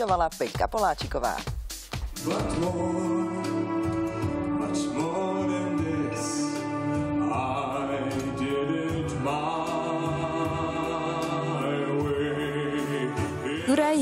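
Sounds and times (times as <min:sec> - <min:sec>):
instrumental accompaniment: 0:00.0 - 0:14.0
man singing with vibrato: 0:02.2 - 0:14.0.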